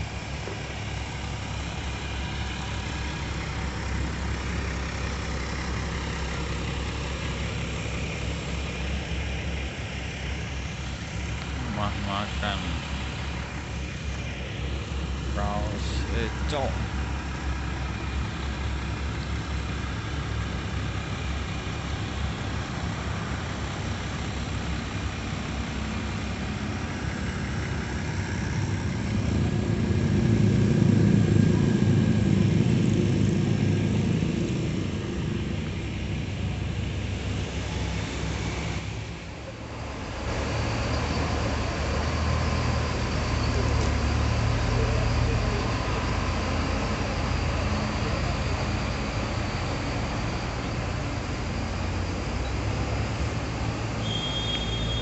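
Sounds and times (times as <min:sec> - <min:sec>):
diesel bus engines idling: 0:00.0 - 0:55.0.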